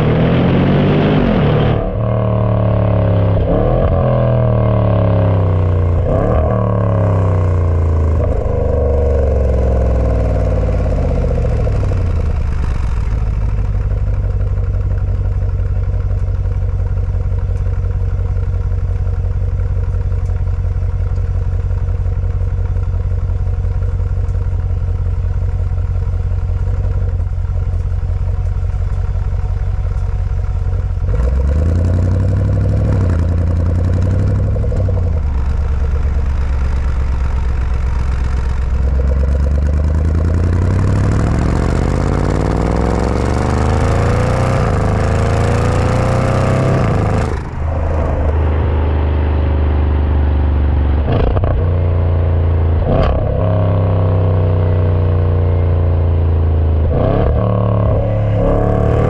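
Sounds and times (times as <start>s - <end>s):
engine idling and revving: 0.0s - 59.0s.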